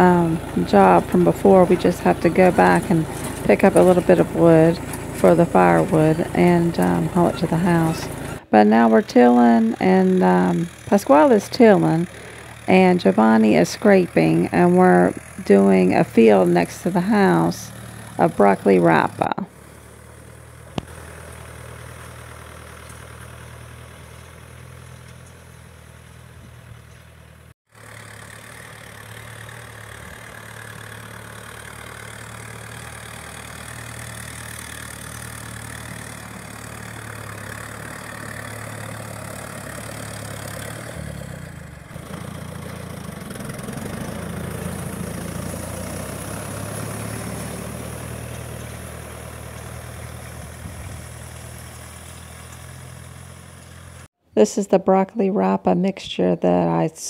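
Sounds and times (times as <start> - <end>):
farm machine engine tilling soil: 0.0 - 54.1.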